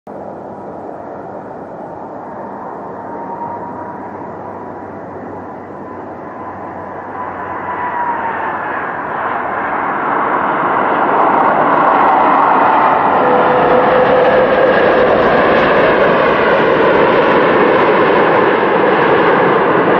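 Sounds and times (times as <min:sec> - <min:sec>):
jet engines rushing and whining: 0:00.1 - 0:19.9.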